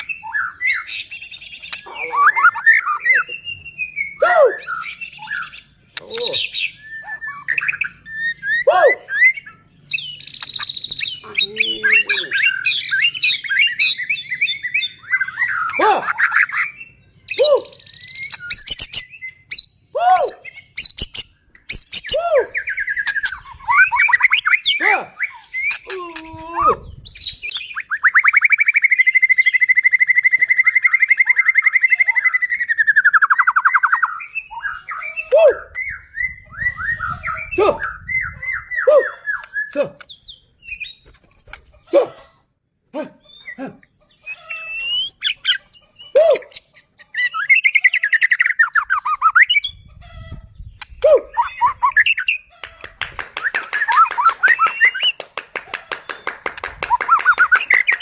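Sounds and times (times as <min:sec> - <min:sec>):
songbird whistles and trills: 0:00.0 - 0:41.2, 0:43.2 - 0:55.3, 0:55.9 - 0:58.0.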